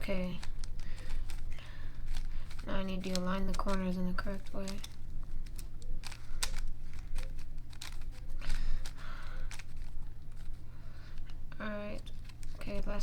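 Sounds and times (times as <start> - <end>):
puzzle cube clicking and rattling: 0.0 - 13.0
puzzle cube scraping rasp: 0.0 - 13.0.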